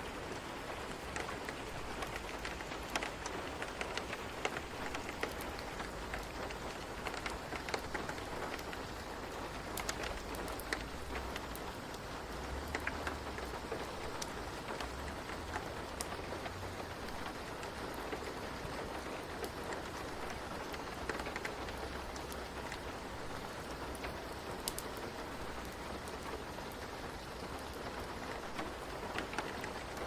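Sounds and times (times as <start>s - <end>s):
rain pattering on a surface: 0.0s - 30.0s.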